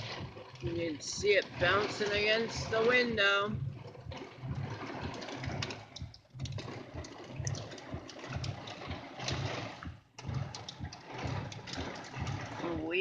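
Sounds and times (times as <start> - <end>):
hail pelting car roof: 0.0 - 13.0
low pulsing hum: 0.0 - 13.0.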